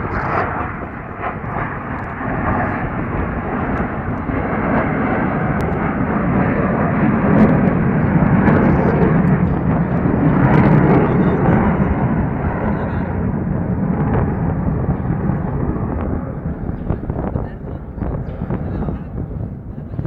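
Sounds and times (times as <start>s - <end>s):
aircraft engine rush: 0.0s - 20.0s.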